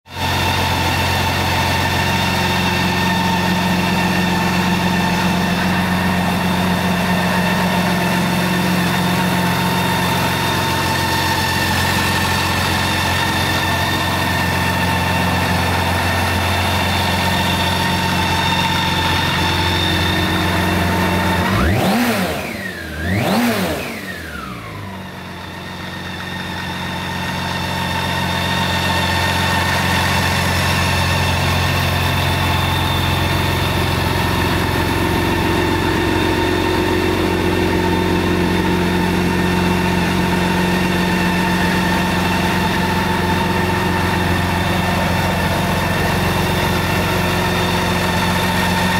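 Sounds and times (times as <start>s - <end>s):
motorcycle engine idling: 0.1s - 48.9s
engine revving: 0.2s - 48.9s.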